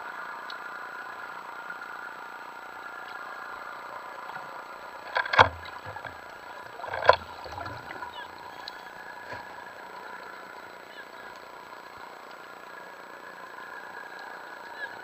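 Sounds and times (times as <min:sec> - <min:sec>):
underwater boat engine hum: 0:00.0 - 0:15.0.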